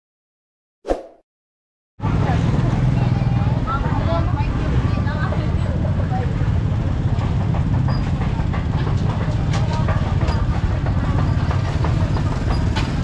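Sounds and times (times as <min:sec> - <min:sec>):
motorbike engines rumbling: 0:02.0 - 0:13.0.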